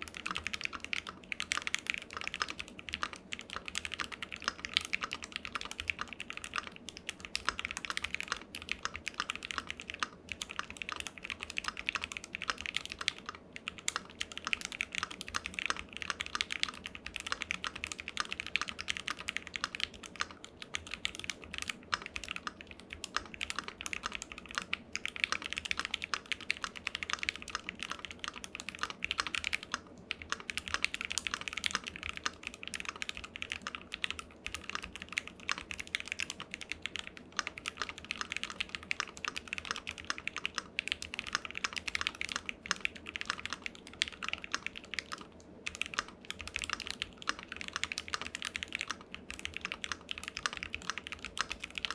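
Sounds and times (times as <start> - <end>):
fast keyboard typing: 0.0 - 51.9.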